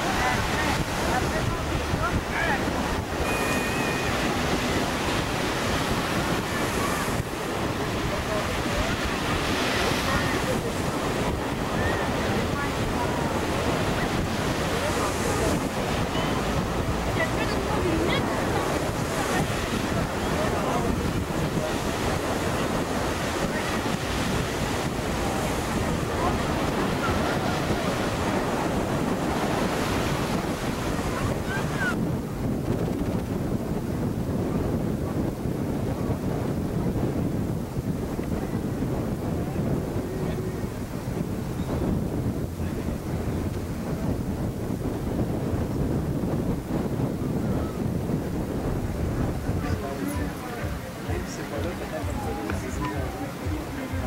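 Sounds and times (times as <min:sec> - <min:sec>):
waves breaking on shore: 0:00.0 - 0:54.0
wind buffeting microphone: 0:00.0 - 0:54.0.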